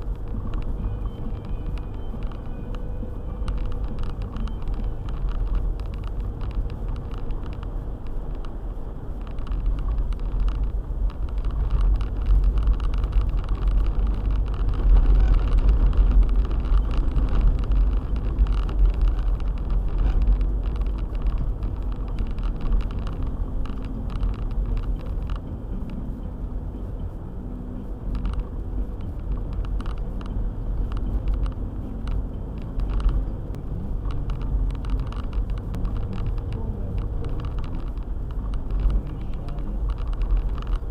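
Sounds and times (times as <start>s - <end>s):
small ticks: 0.0s - 26.1s, 27.8s - 40.9s
car engine and tyre rumble: 0.0s - 40.9s.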